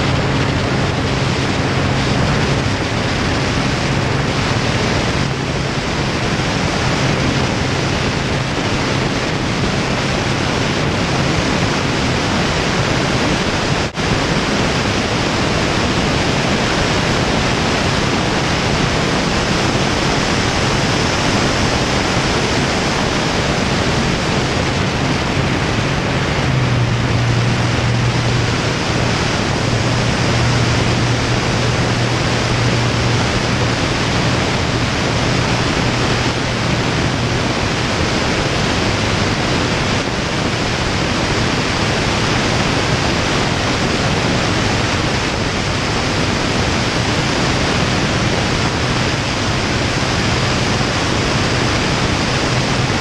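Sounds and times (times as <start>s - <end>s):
plane engine and propeller drone: 0.0s - 53.0s
wind rushing over camera: 0.0s - 53.0s.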